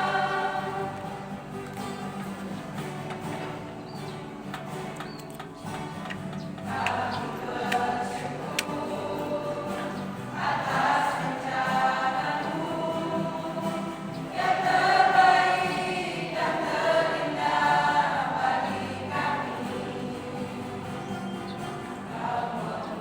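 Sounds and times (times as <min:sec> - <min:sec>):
choir singing: 0:00.0 - 0:02.6, 0:06.5 - 0:23.0.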